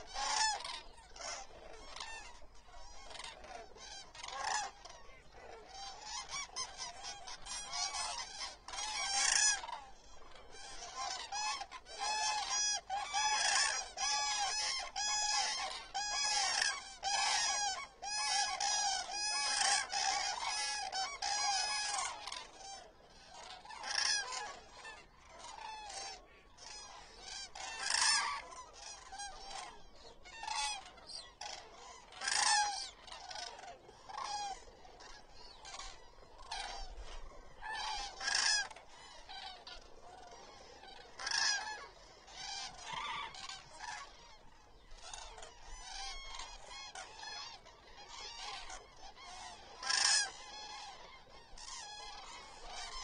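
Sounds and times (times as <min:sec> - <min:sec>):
cranes trumpeting calls: 0:00.0 - 0:53.0.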